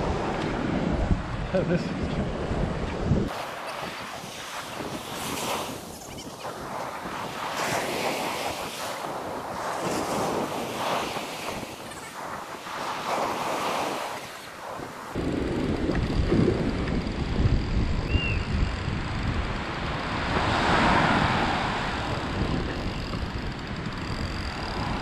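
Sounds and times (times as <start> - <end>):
waves crashing on beach: 0.0 - 17.5, 18.9 - 25.0
wind buffeting microphone: 0.0 - 25.0.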